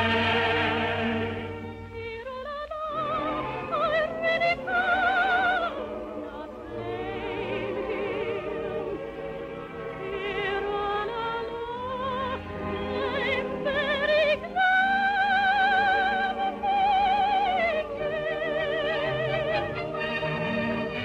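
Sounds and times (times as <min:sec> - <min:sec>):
operatic soprano singing: 0:00.0 - 0:21.0
orchestral accompaniment: 0:00.0 - 0:21.0.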